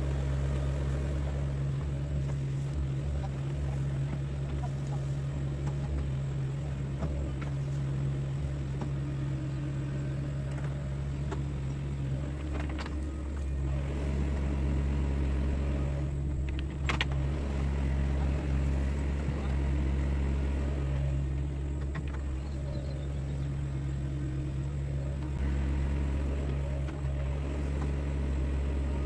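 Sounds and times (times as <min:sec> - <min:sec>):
diesel excavator engine running: 0:00.0 - 0:29.0.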